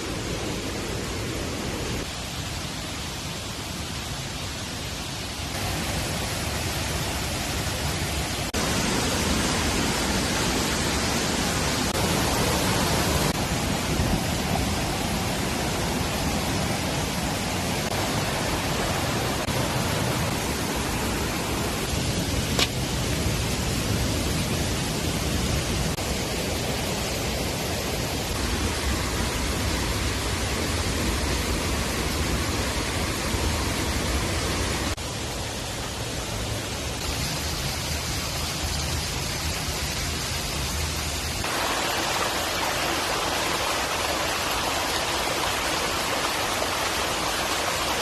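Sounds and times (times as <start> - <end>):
rushing water: 0.0 - 48.0.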